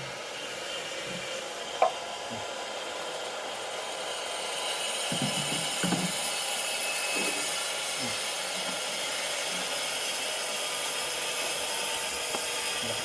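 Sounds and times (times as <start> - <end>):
power cutter grinding: 0.0 - 13.0.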